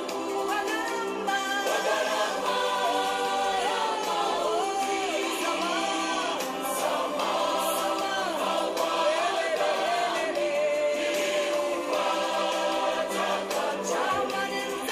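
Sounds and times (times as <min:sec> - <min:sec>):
choir singing gospel: 0:00.0 - 0:14.9.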